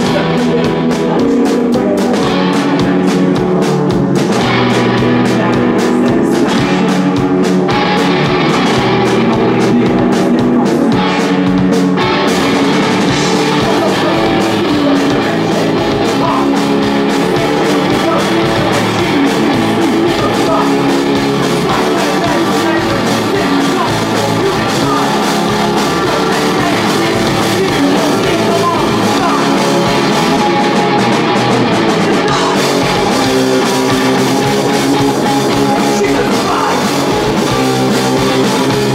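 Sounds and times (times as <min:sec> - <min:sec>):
person singing lead vocal: 0:00.0 - 0:38.9
rock band playing live: 0:00.0 - 0:38.9.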